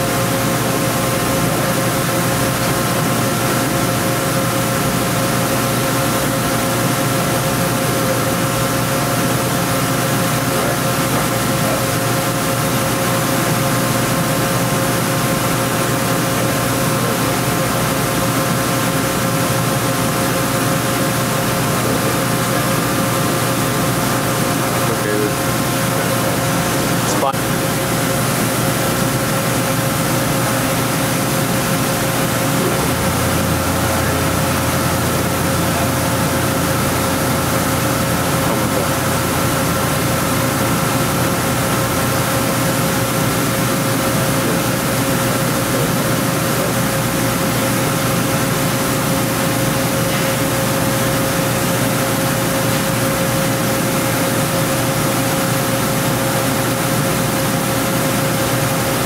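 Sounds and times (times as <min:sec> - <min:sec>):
deeper machine hum: 0:00.0 - 0:59.0
machine hum and hiss: 0:00.0 - 0:59.0.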